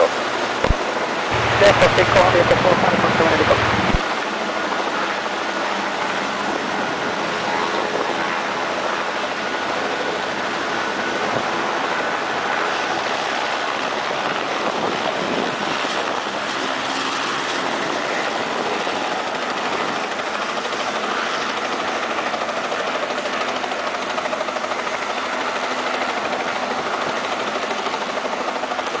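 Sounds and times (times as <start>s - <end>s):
helicopter turbine and rotor: 0.0s - 29.0s.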